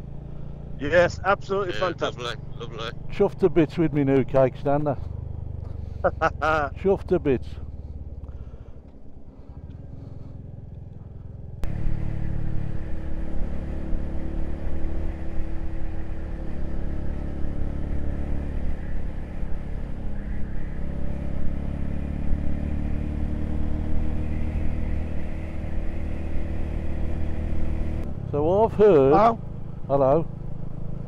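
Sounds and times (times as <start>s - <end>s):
low engine rumble: 0.0s - 31.0s
motorcycle engine running: 0.0s - 31.0s
wind and road noise: 0.0s - 31.0s.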